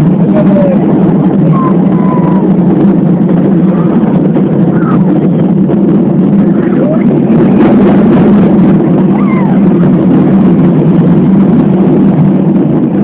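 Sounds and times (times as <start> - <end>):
amusement ride rumbling: 0.0 - 13.0.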